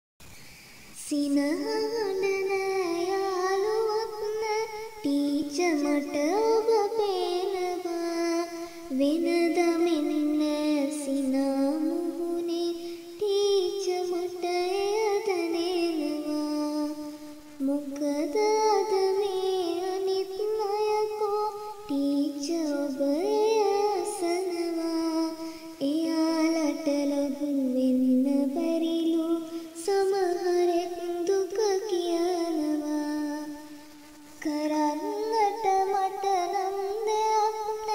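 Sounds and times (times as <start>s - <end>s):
person singing: 1.0s - 37.9s.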